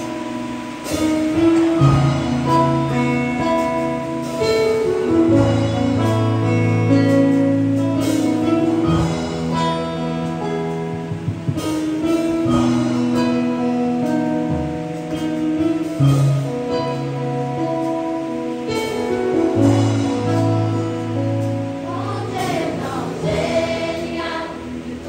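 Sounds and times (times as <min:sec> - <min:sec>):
drum or cymbal hits: 0:00.0 - 0:24.2
electric keyboard chords: 0:00.0 - 0:25.0
guitar: 0:00.0 - 0:25.0.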